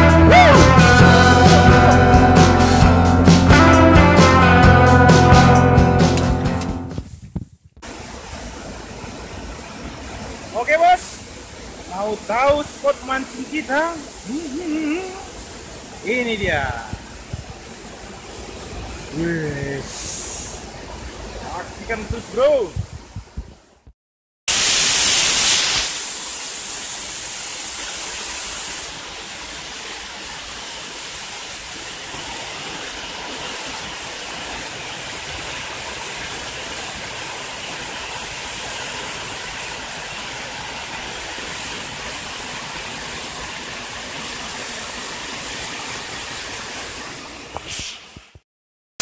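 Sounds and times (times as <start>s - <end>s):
waterfall rushing: 0.0s - 6.7s, 7.8s - 22.8s, 24.5s - 48.0s.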